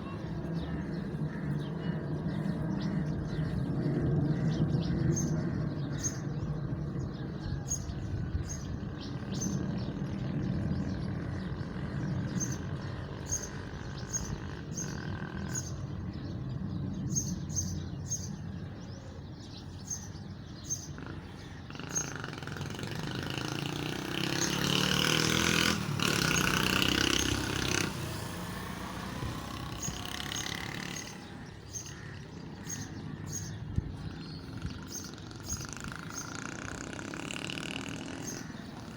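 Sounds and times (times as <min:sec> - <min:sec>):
birds chirping: 0:00.0 - 0:38.9
distant jet engines rumbling: 0:00.0 - 0:38.9.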